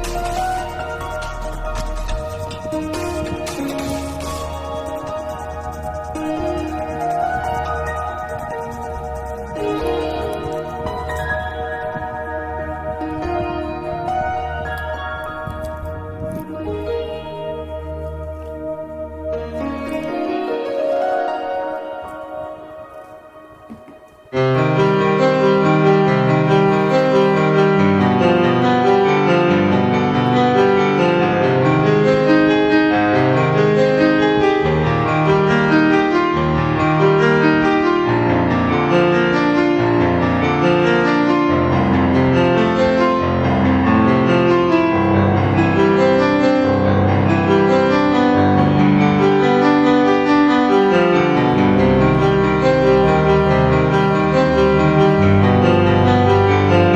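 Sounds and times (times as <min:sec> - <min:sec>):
piano background music: 0:00.0 - 0:56.9.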